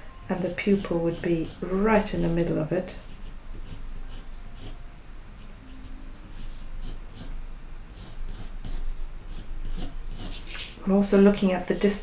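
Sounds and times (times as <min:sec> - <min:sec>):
pencil scratching on paper: 0:00.4 - 0:04.8, 0:05.4 - 0:10.7.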